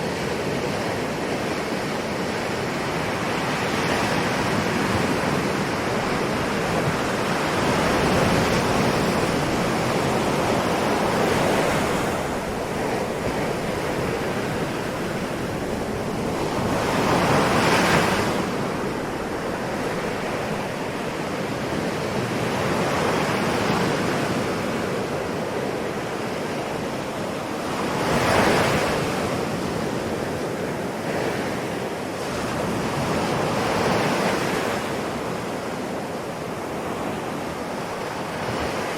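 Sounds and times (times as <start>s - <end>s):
ocean waves breaking: 0.0s - 38.9s
steady wash of surf: 0.0s - 38.9s.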